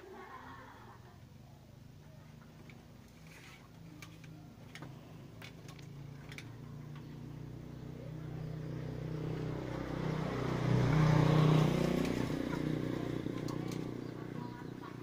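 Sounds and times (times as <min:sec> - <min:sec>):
vehicle engine passing: 0:01.7 - 0:15.0.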